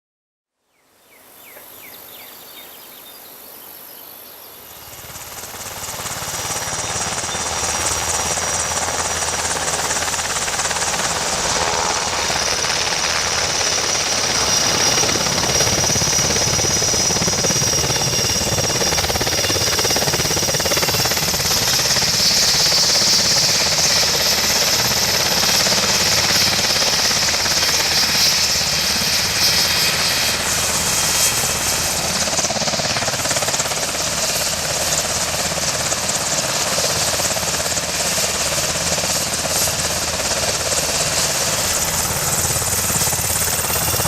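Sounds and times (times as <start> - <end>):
high turbine whine: 1.7 - 44.0
helicopter rotor chop: 4.7 - 44.0.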